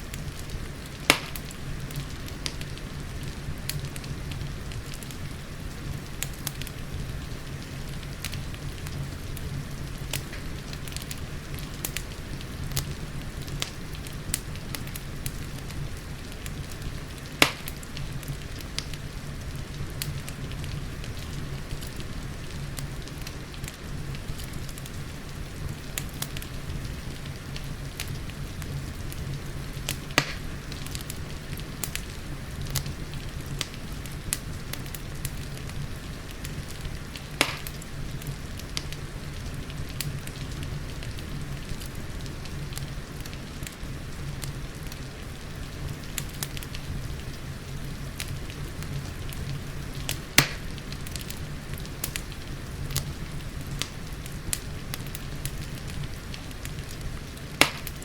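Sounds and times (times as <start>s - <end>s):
wood fire crackling: 0.0s - 58.0s
fire pops: 0.1s - 43.8s, 44.4s - 58.0s.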